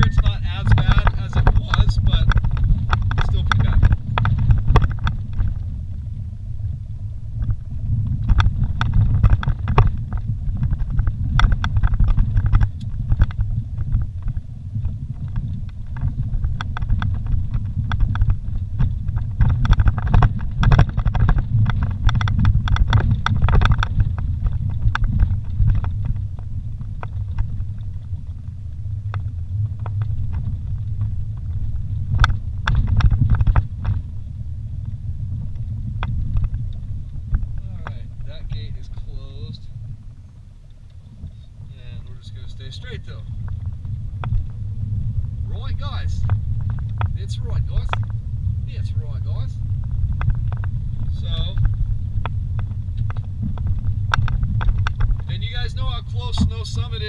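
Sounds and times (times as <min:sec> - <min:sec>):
rattles and knocks inside cab: 0:00.0 - 0:05.9, 0:07.4 - 0:28.4, 0:29.0 - 0:34.2, 0:35.4 - 0:40.3, 0:45.5 - 0:57.0
vehicle engine and tyres rumbling: 0:00.0 - 0:57.0.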